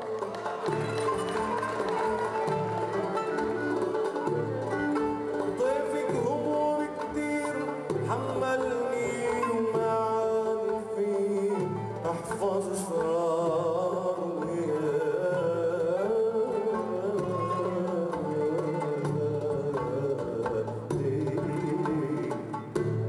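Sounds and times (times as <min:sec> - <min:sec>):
hand percussion: 0:00.0 - 0:23.0
plucked strings: 0:00.0 - 0:23.0.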